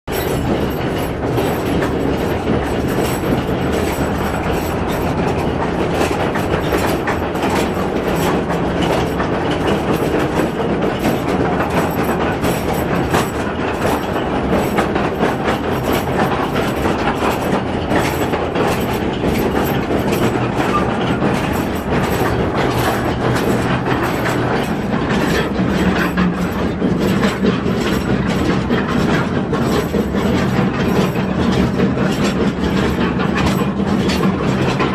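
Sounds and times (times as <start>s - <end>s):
train rumble: 0.1s - 34.9s
wheels clattering on track: 0.1s - 34.9s.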